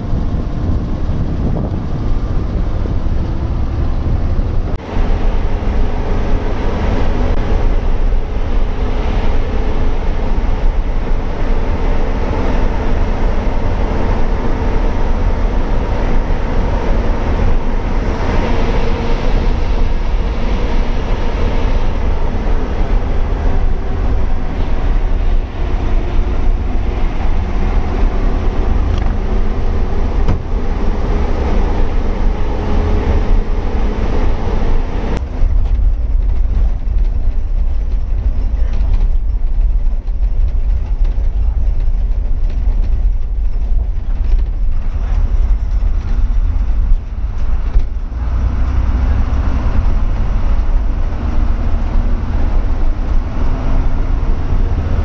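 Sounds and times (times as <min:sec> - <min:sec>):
bus diesel engine droning: 0:00.0 - 0:55.0
road noise: 0:00.0 - 0:55.0.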